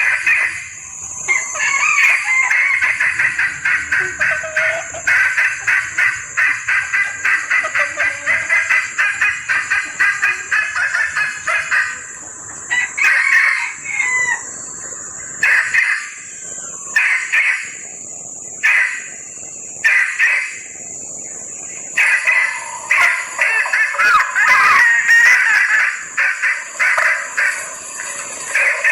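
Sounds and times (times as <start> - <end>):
hen clucking call: 0.0 - 0.7, 1.3 - 14.5, 15.4 - 17.8, 18.6 - 19.2, 19.8 - 20.7, 21.8 - 28.9
steady high hiss: 0.0 - 28.9.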